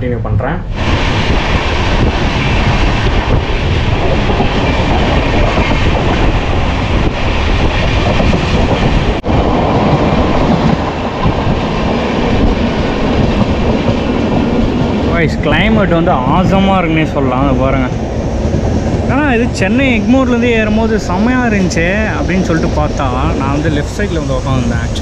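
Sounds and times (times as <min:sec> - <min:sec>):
train wheels on track: 0:00.7 - 0:25.0.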